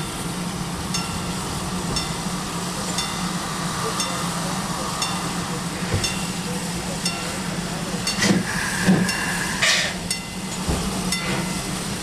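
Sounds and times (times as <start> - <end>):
steam train hiss and rumble: 0.0 - 12.0.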